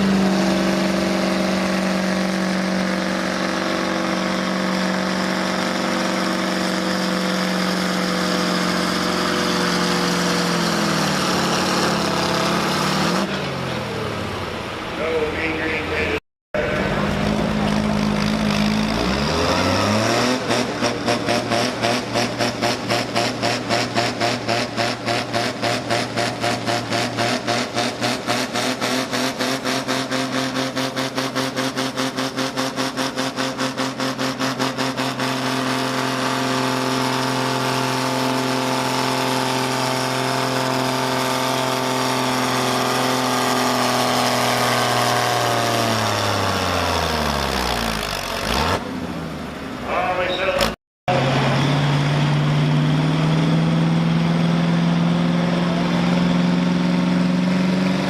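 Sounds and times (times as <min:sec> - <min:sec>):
vehicle engine at high revs: 0:00.0 - 0:58.0.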